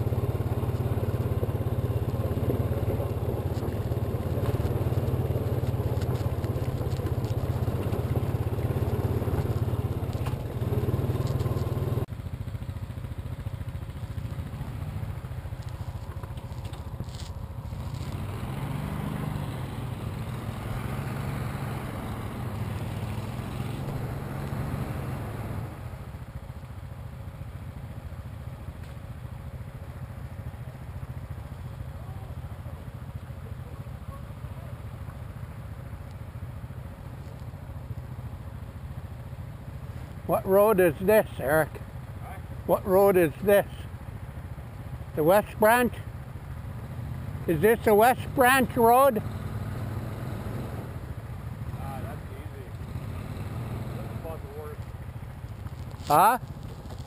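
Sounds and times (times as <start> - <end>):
atv engine running: 0.0 - 57.0
utility vehicle engine: 0.0 - 57.0.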